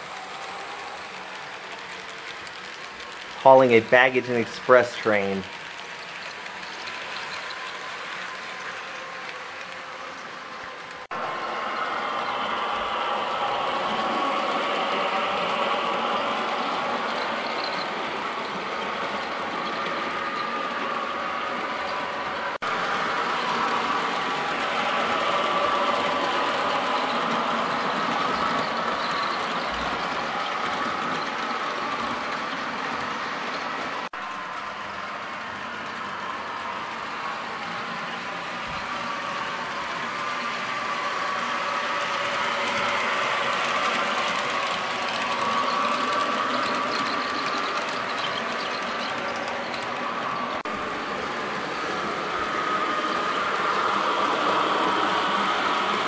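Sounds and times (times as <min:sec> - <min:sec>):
small metal wheels clicking on rails: 0:00.0 - 0:11.2, 0:11.8 - 0:56.0
model train rolling: 0:00.0 - 0:56.0.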